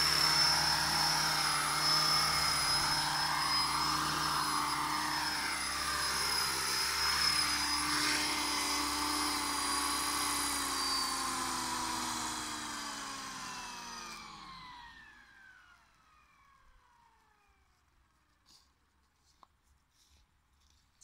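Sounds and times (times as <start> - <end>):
model helicopter motor and rotor whine: 0.0 - 17.9.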